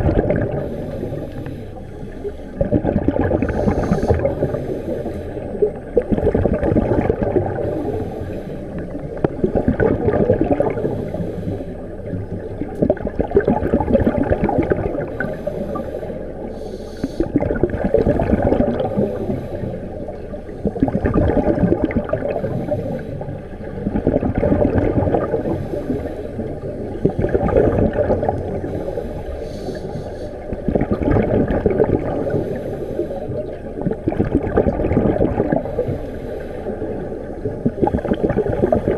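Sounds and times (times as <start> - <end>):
steady low underwater rush: 0.0 - 38.9
underwater regulator bubbling: 0.0 - 38.9.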